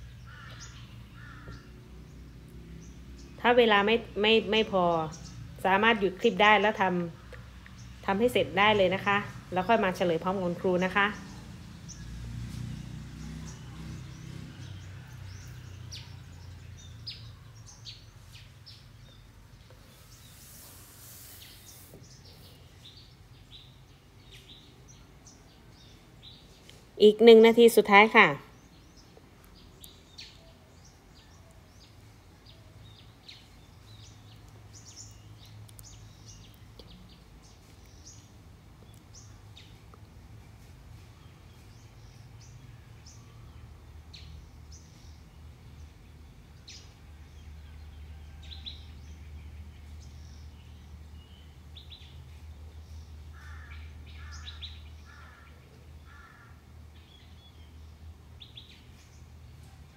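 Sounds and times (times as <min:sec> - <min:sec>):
faint birds chirping: 0:00.0 - 0:59.9.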